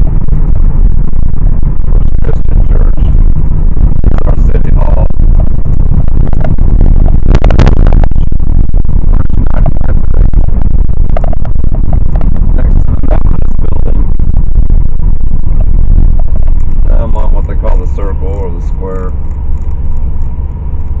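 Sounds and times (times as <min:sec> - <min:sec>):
car road and wind rumble: 0:00.0 - 0:21.0
rattling crackling burst: 0:00.0 - 0:21.0.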